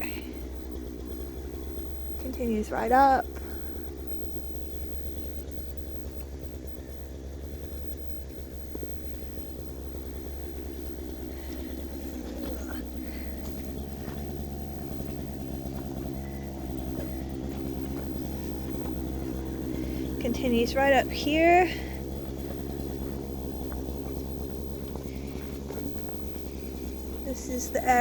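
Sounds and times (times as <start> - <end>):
faint ticks: 0.0 - 28.0
small engine humming: 0.0 - 28.0.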